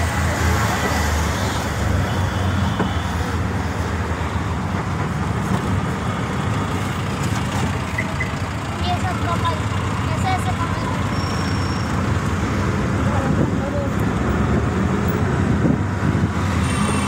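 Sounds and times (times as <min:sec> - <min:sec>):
auto-rickshaw engine running: 0:00.0 - 0:17.0
road traffic noise: 0:00.0 - 0:17.0.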